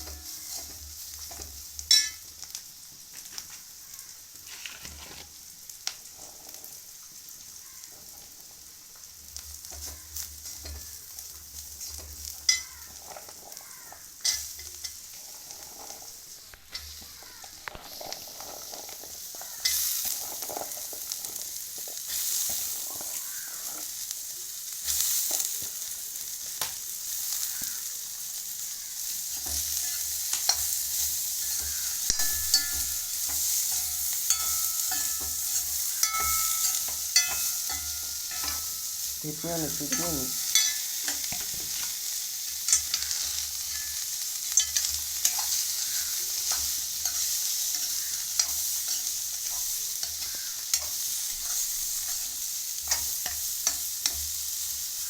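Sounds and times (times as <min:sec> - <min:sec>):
spatula scraping a pan: 0:00.0 - 0:02.6, 0:03.2 - 0:07.2, 0:09.3 - 0:55.0
beans sizzling in a pan: 0:00.0 - 0:55.0.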